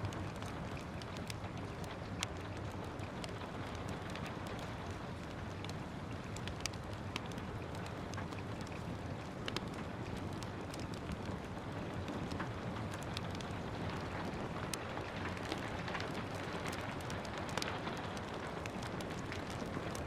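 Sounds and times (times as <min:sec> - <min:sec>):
steady rain: 0:00.0 - 0:20.0
wood fire crackling: 0:00.0 - 0:20.0.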